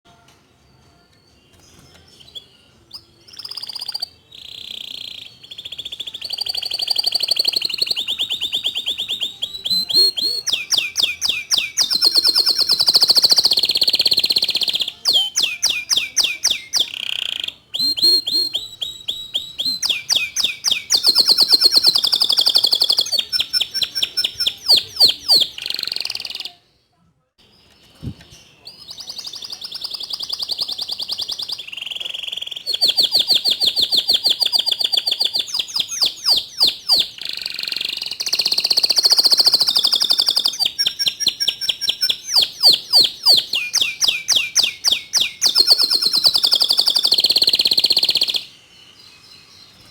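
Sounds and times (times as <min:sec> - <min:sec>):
canary singing trills: 0:00.1 - 0:26.8, 0:27.4 - 0:49.9.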